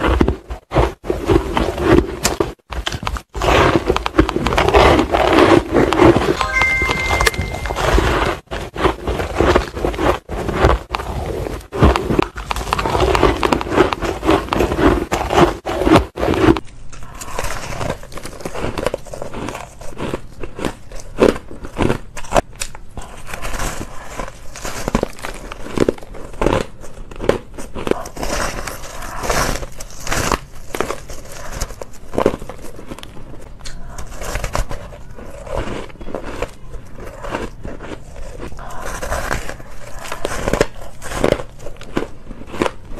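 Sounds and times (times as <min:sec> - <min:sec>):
crunchy chewing of shaved ice: 0:00.0 - 0:42.9.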